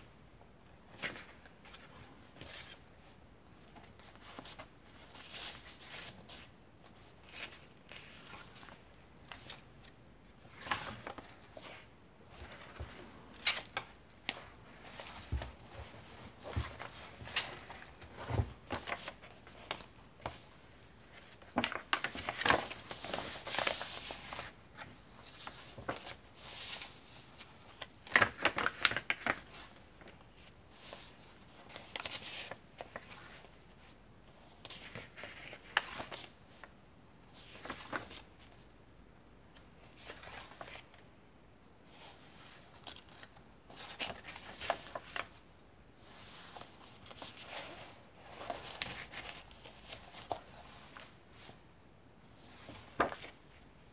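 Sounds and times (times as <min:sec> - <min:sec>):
paper pages rustling: 0:00.8 - 0:34.0, 0:34.6 - 0:36.7, 0:37.4 - 0:38.6, 0:39.8 - 0:41.0, 0:42.2 - 0:45.4, 0:46.0 - 0:51.6, 0:52.4 - 0:53.5.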